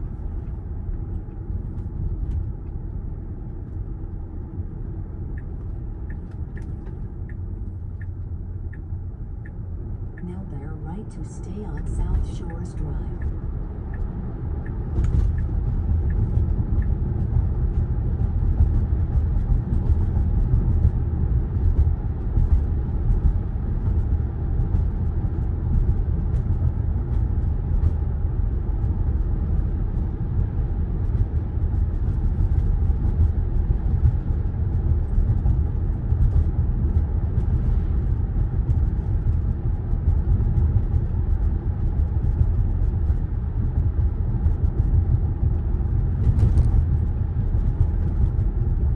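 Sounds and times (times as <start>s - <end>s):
tyre and road noise in car cabin: 0.0s - 48.9s.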